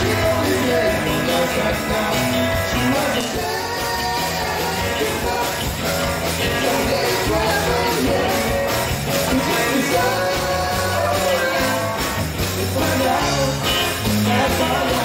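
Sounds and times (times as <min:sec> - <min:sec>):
drums keeping steady beat: 0:00.0 - 0:15.0
rock band playing live: 0:00.0 - 0:15.0.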